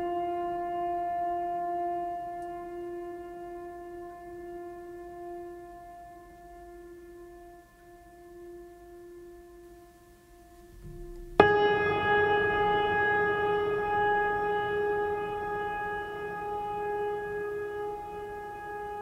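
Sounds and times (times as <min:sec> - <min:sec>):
slow music of long held notes: 0:00.0 - 0:19.0.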